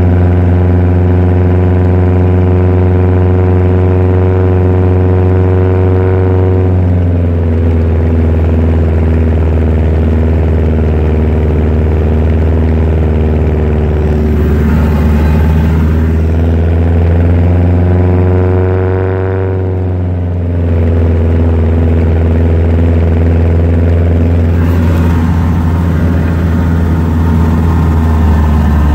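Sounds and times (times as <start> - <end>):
snowcat engine running: 0.0 - 28.9.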